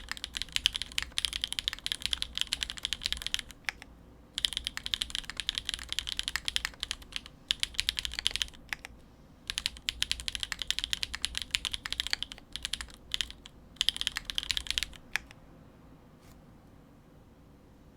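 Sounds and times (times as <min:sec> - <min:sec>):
mechanical keyboard typing: 0:00.0 - 0:08.9, 0:09.5 - 0:15.3.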